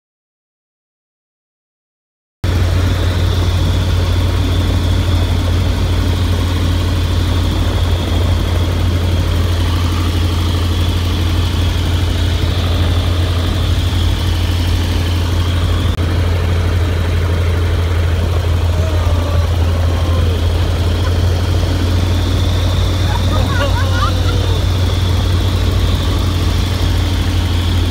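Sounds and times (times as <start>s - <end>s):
propeller plane engine drone: 2.4s - 27.9s.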